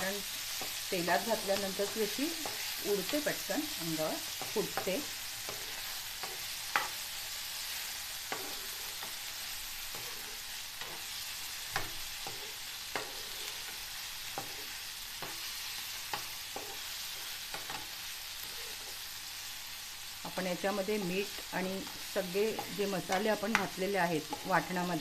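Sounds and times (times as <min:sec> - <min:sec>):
liver sizzling and popping in oil: 0:00.0 - 0:25.0.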